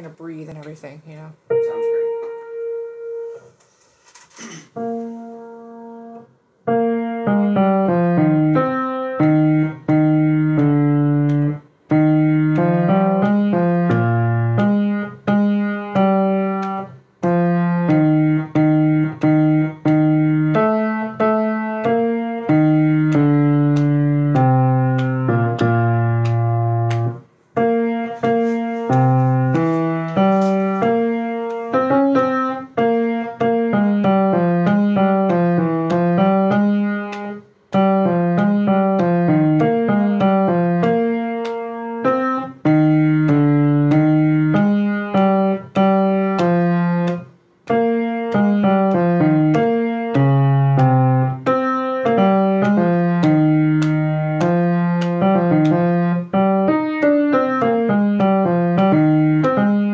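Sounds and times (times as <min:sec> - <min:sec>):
slow piano chords and melody: 0:01.4 - 0:03.6, 0:04.8 - 0:59.9.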